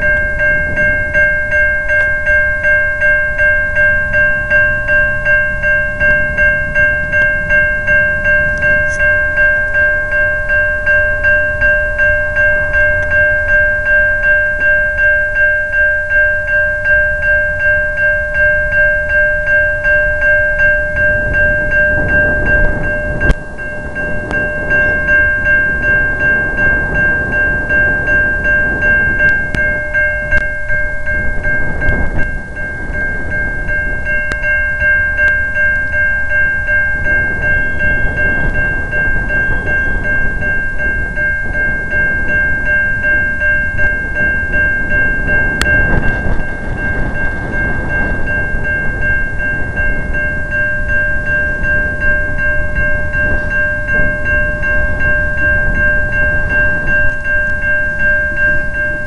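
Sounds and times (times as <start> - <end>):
freight train rumbling past: 0.0 - 59.0
railroad crossing bell ringing: 0.0 - 59.0.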